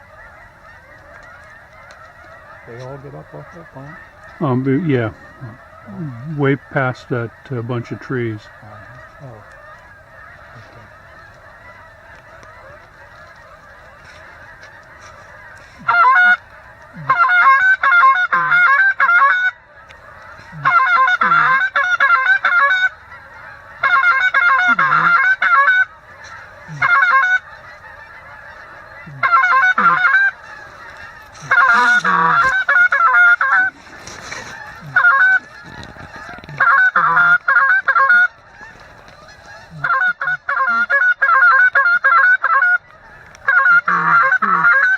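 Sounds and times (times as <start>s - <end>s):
flock of geese honking: 0.0s - 44.9s
goose call honks and clucks: 0.0s - 44.9s.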